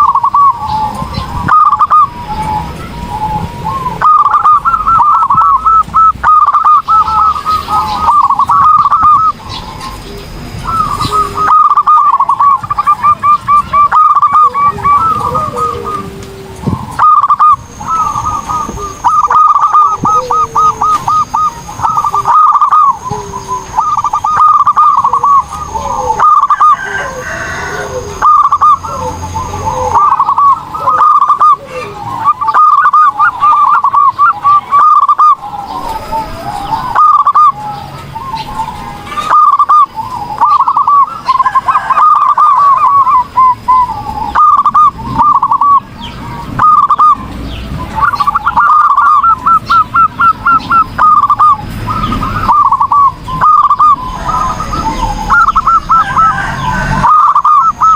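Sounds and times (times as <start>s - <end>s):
dove cooing: 0.0s - 57.9s.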